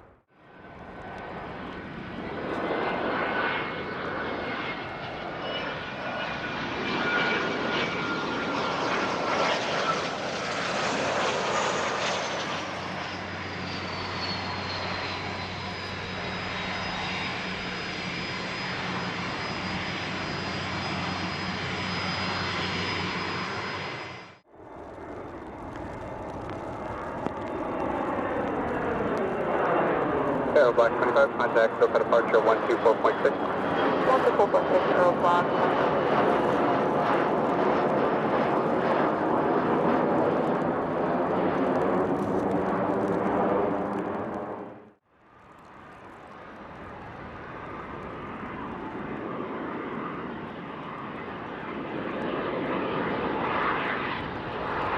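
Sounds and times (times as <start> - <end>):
jet engines whining: 0.0 - 45.0
quieter jet with falling pitch: 0.0 - 54.9.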